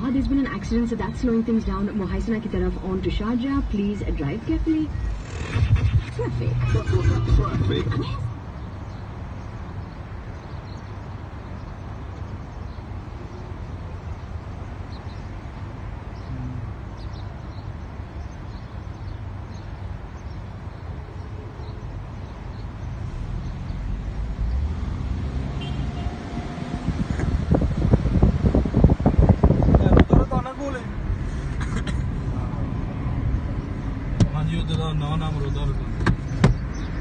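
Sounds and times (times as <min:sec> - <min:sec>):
car engine and tyre noise: 0:00.0 - 0:37.0.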